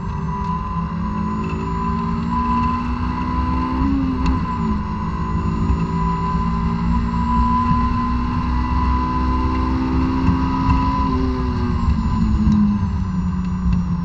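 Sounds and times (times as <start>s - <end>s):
car engine revving high: 0.0s - 14.0s.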